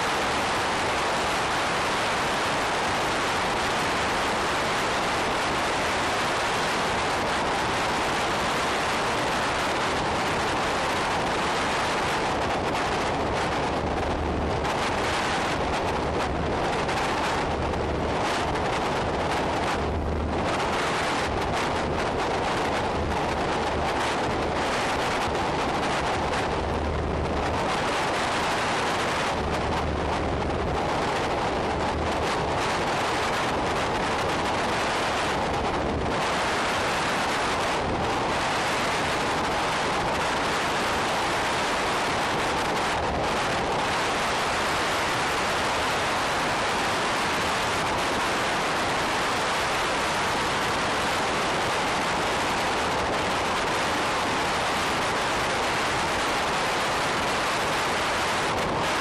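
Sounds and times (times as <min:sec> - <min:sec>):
wind noise: 0:00.0 - 0:59.0.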